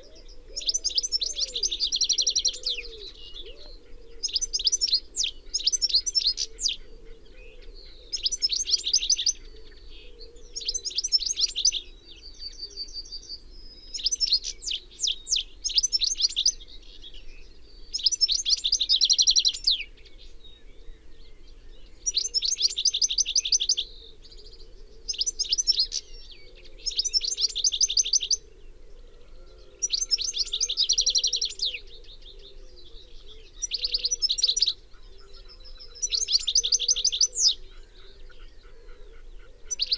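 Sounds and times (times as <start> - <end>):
goldfinch twittering and trills: 0.0 - 6.9, 7.6 - 28.4, 29.8 - 32.4, 33.2 - 38.6, 39.3 - 39.9.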